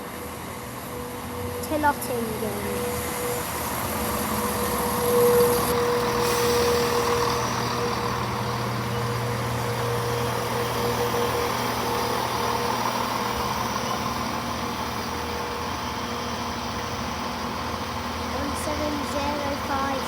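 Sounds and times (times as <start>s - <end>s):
diesel train engine idling: 0.0s - 20.0s.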